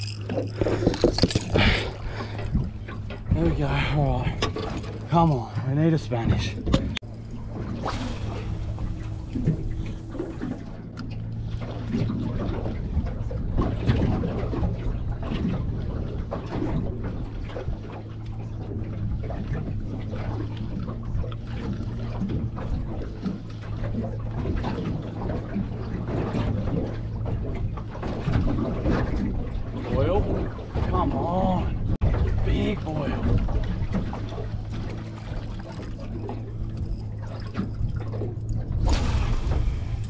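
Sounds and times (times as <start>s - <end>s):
boat motor idling: 0.0s - 40.0s
water slapping against hull: 0.0s - 40.0s.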